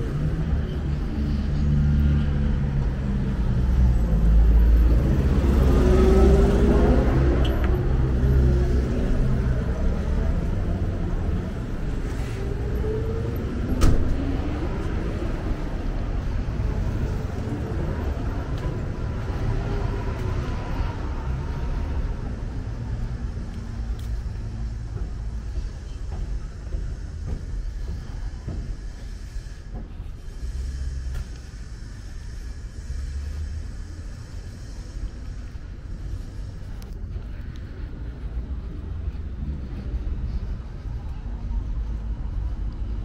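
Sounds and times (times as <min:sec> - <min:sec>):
light street traffic: 0:00.0 - 0:43.0
vehicle engine running close: 0:00.0 - 0:43.0.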